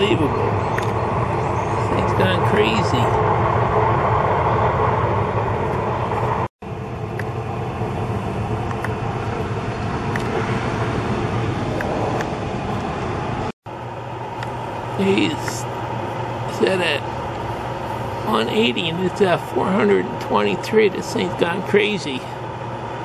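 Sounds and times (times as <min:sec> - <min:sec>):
grill fan whooshing: 0:00.0 - 0:23.0
low hum: 0:00.0 - 0:23.0.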